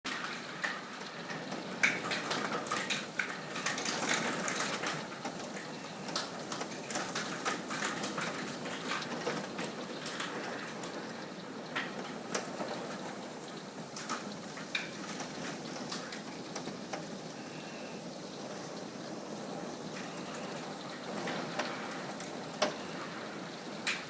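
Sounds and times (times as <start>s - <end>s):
rain hiss: 0.1s - 24.0s
raindrops splatting: 0.1s - 24.0s.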